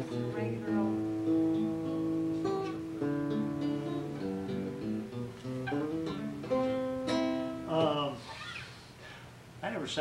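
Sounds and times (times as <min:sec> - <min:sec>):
acoustic guitar strumming: 0:00.0 - 0:08.6.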